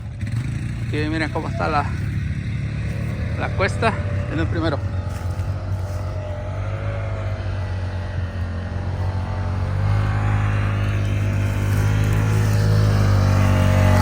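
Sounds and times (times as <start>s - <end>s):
off-road vehicle engine climbing: 0.0s - 14.0s.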